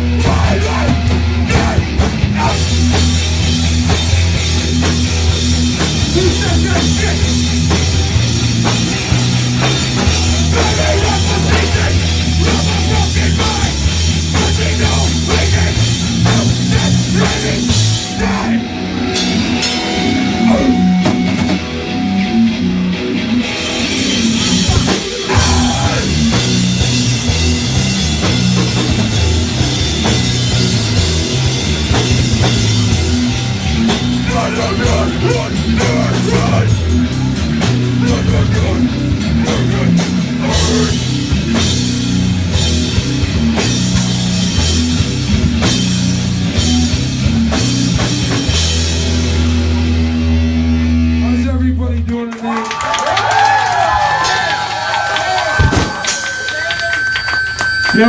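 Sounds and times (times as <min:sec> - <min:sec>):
punk band playing: 0:00.0 - 0:58.0.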